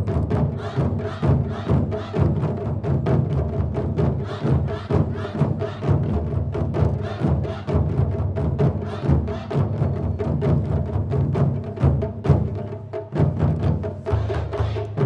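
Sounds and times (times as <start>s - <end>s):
drum ensemble playing fast rhythm: 0.0s - 15.0s.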